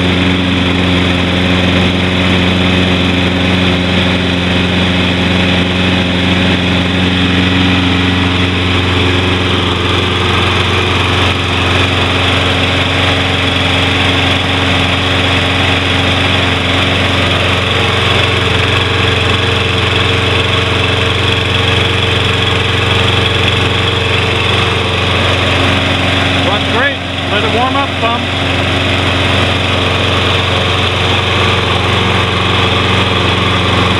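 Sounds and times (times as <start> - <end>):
lawn mower engine running: 0.0 - 33.9.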